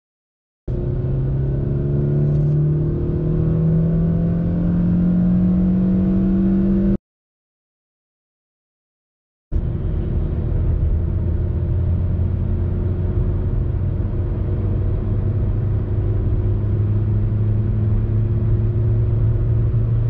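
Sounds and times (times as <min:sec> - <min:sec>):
car engine accelerating: 0:00.7 - 0:07.0, 0:09.6 - 0:20.0.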